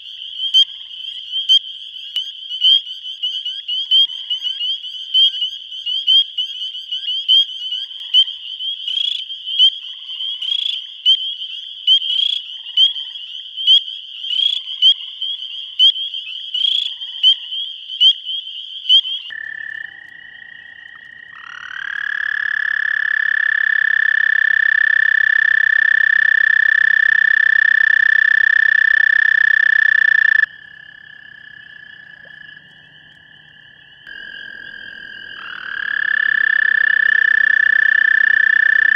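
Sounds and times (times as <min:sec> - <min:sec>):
frogs peeping in chorus: 0:00.0 - 0:38.9.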